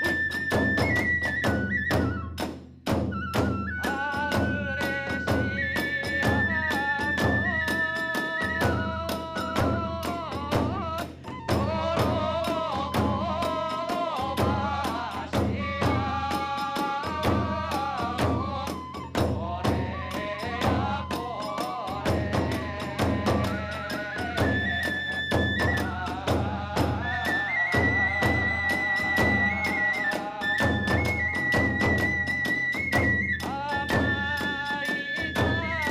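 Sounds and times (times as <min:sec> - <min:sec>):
bamboo flute melody: 0:00.0 - 0:35.9
big drum beats: 0:00.0 - 0:35.9.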